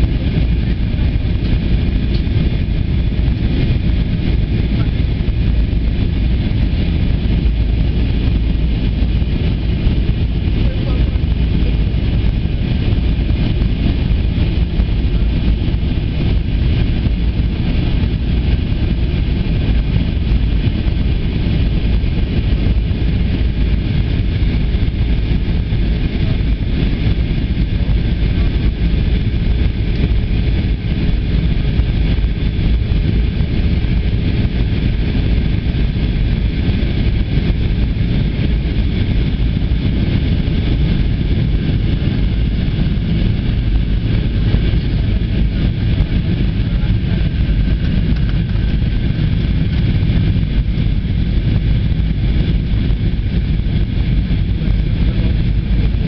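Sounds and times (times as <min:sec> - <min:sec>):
jet engine cabin rumble: 0:00.0 - 0:56.0.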